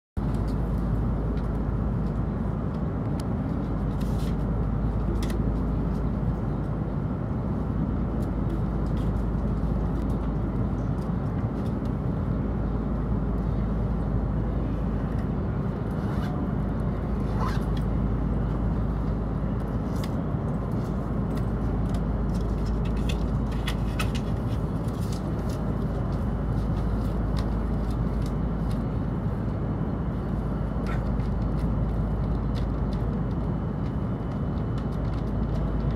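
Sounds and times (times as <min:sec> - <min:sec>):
train carriage hum: 0:00.2 - 0:35.9.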